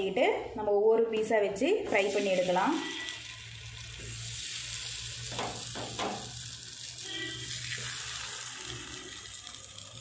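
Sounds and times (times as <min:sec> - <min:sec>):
food sizzling in oil: 0:01.9 - 0:10.0.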